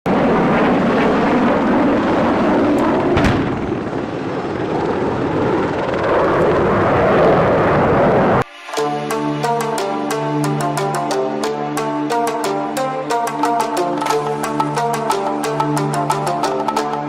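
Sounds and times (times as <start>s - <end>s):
helicopter running: 0.1s - 17.0s.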